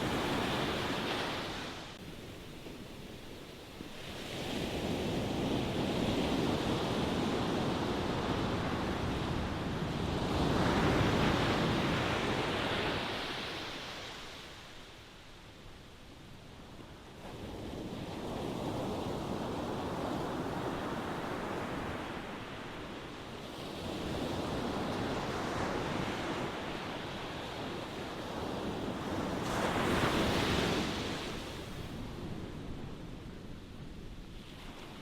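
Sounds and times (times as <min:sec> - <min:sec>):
ocean waves on a shore: 0:00.0 - 0:35.0.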